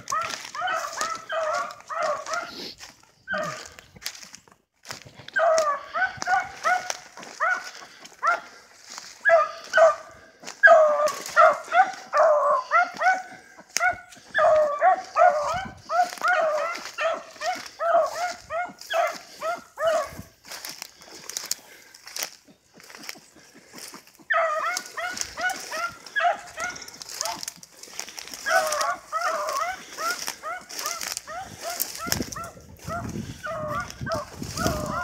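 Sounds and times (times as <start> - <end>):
dogs yelping barks: 0.0 - 3.9, 5.3 - 35.0.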